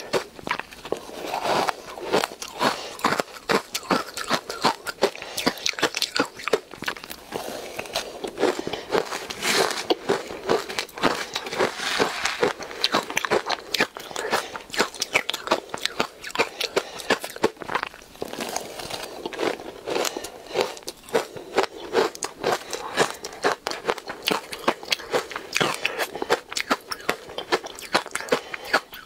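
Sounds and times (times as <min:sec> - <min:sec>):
crunchy ice chewing: 0:00.0 - 0:29.0.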